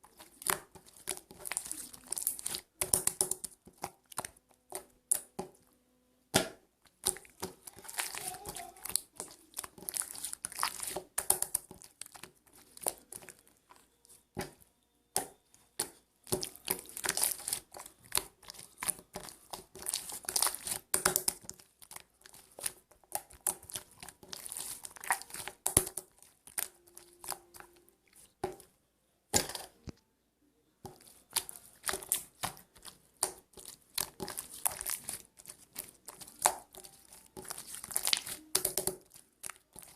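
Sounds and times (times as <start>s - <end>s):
slime crackling and popping: 0.0s - 5.4s, 6.4s - 13.6s, 15.2s - 28.5s, 30.9s - 39.9s.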